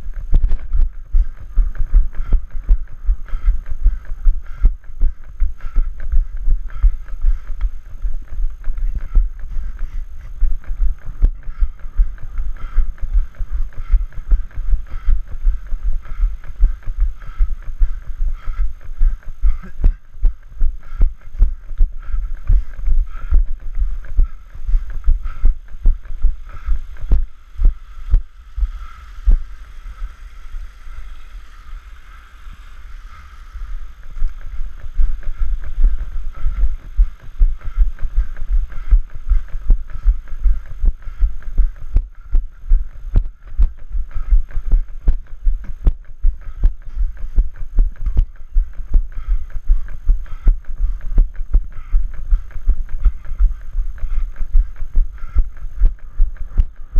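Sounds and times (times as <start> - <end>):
wind on microphone: 0.0 - 56.9.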